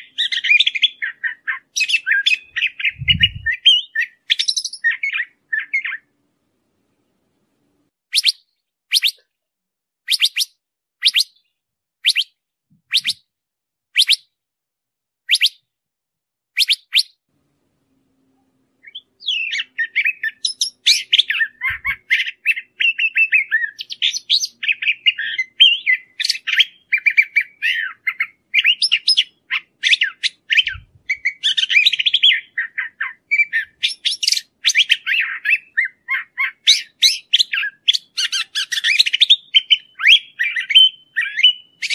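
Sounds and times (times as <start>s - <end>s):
bird sharp calls: 0.0s - 6.1s, 8.1s - 9.2s, 10.1s - 12.3s, 12.9s - 13.2s, 14.0s - 14.2s, 15.3s - 15.6s, 16.6s - 17.2s, 18.8s - 41.9s
bird warbling song: 0.0s - 6.1s, 8.1s - 9.3s, 10.1s - 13.2s, 14.0s - 14.3s, 15.3s - 15.6s, 16.6s - 17.2s, 18.8s - 41.9s.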